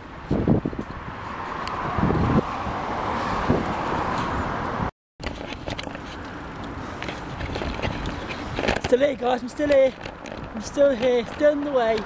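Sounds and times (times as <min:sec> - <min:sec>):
wind noise on microphone: 0:00.0 - 0:06.3, 0:06.9 - 0:12.0
road noise rumble: 0:00.0 - 0:12.0.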